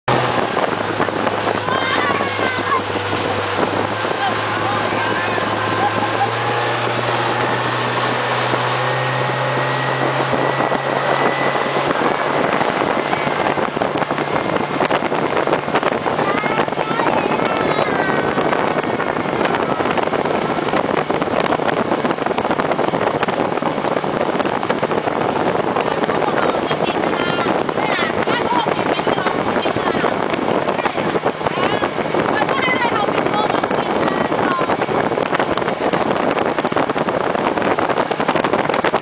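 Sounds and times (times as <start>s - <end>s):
boat engine hum: 0.0s - 39.0s
rushing water: 0.0s - 39.0s
wind buffeting microphone: 0.1s - 39.0s.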